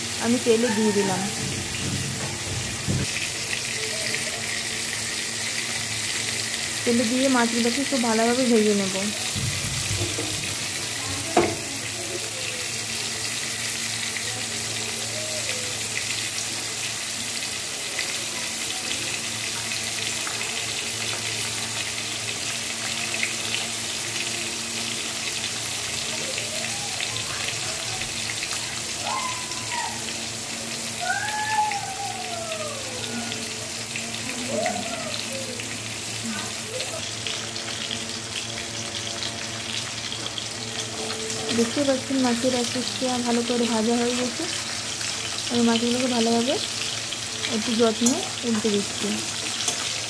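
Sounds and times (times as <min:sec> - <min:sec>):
fish frying in hot oil: 0:00.0 - 0:50.0.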